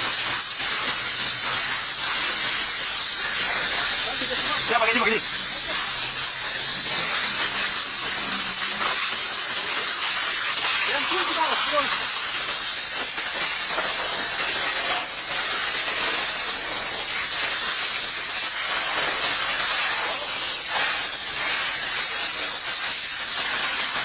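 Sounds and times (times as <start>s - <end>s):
loud steady hiss: 0.0s - 24.0s.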